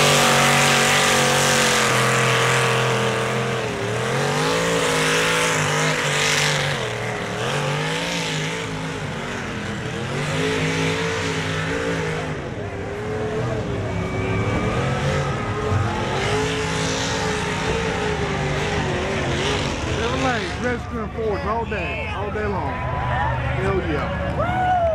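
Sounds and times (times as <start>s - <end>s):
truck engine revving hard: 0.0s - 24.9s.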